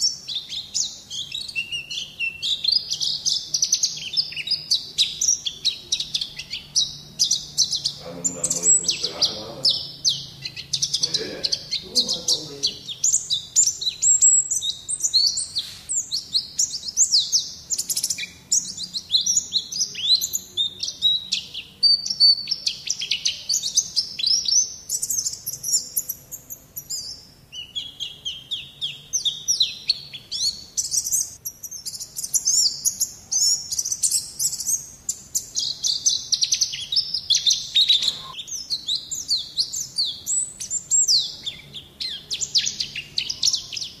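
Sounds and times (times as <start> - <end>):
bird chattering song: 0.0 - 44.0.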